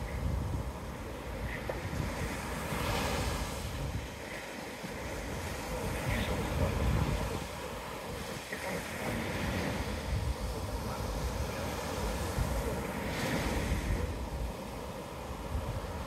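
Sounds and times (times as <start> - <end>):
waves breaking on beach: 0.0 - 16.0
wind rumbling on microphone: 0.0 - 16.0.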